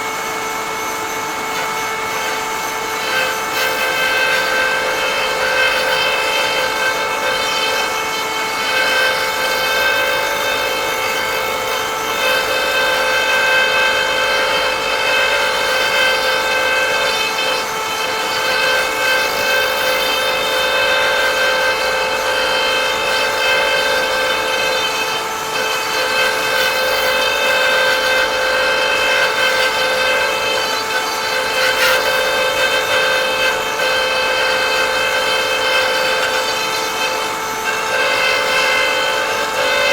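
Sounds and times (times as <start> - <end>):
power tool whining cutting wood: 0.0 - 39.9.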